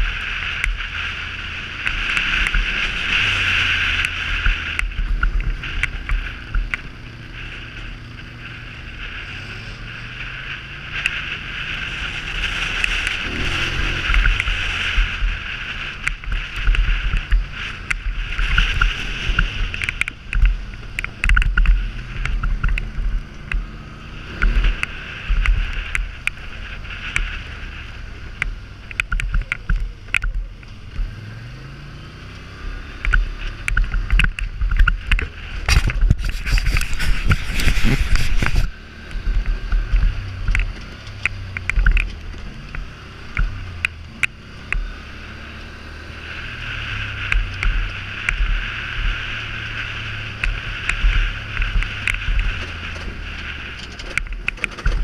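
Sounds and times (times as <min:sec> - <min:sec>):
atv engine revving: 0:00.0 - 0:55.0
gravel knocks and rattles: 0:00.0 - 0:55.0
wind buffeting microphone: 0:00.0 - 0:55.0.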